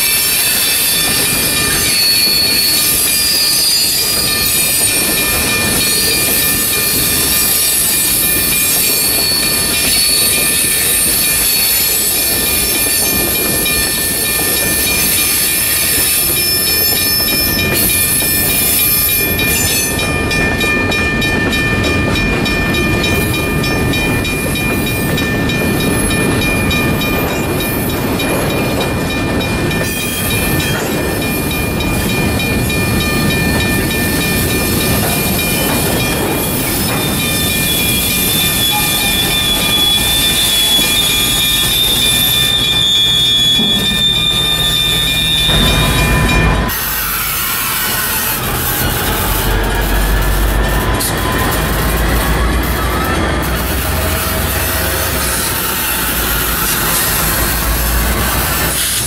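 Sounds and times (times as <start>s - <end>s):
diesel locomotive rumble: 0.0s - 59.0s
train wheels rumbling on rails: 0.0s - 59.0s
wheel flanges squealing: 0.0s - 59.0s.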